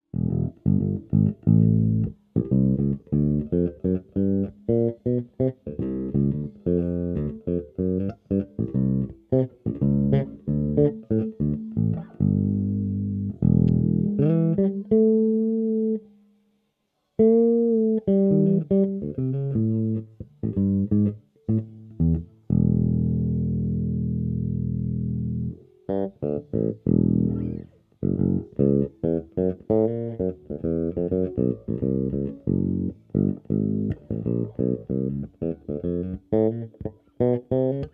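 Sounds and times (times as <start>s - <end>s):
electric bass plucked notes: 0.0s - 16.1s, 17.2s - 37.9s.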